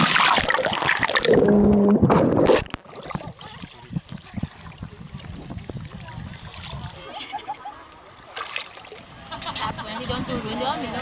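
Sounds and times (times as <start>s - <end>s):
sea water splashing: 0.0s - 9.1s.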